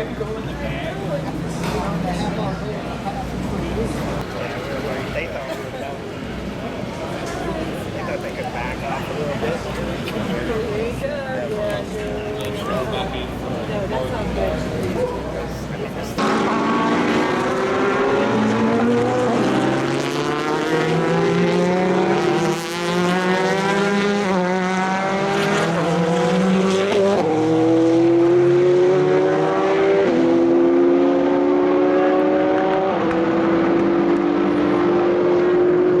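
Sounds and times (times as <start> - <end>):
race car engines accelerating: 0.0 - 36.0.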